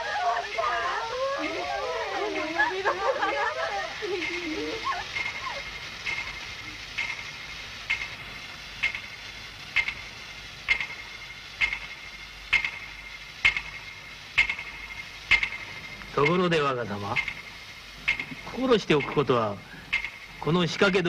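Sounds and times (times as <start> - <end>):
clock ticking: 0.0 - 21.0.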